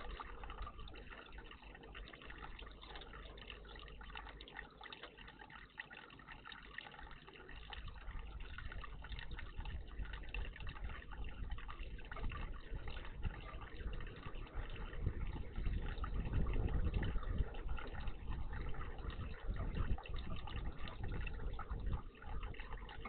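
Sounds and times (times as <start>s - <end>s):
water trickling in bird bath: 0.0s - 23.0s.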